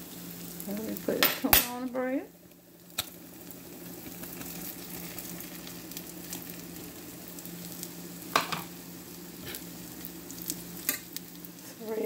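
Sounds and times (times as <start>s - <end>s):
bread sizzling in frying pan: 0.0s - 12.0s
low steady hum: 0.0s - 12.0s.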